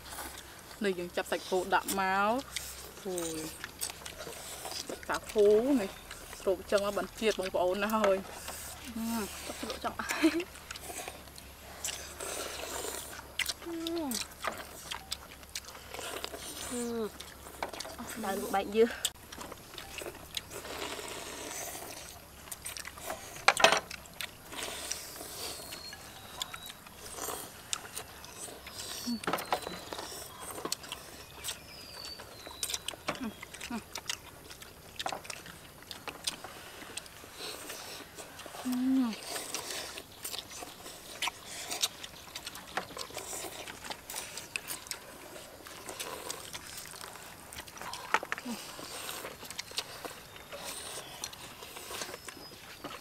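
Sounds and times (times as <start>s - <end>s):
noodles being slurped: 0.0s - 23.5s, 24.3s - 53.0s.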